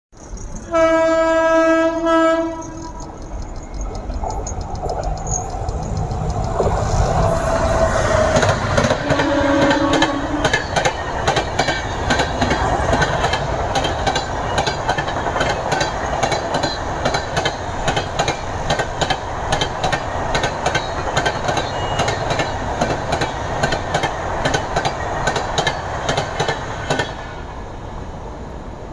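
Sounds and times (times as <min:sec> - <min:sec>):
train rumble: 0:00.2 - 0:28.9
train wheels clacking: 0:02.4 - 0:27.4.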